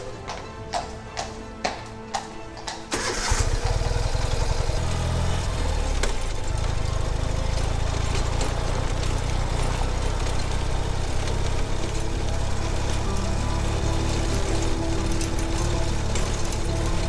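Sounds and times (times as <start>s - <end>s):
motorcycle engine running: 2.9s - 17.0s.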